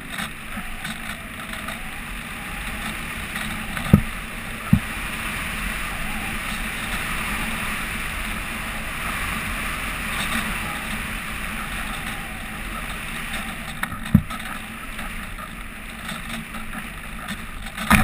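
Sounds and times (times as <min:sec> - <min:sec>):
wind noise over camera: 0:00.0 - 0:18.0.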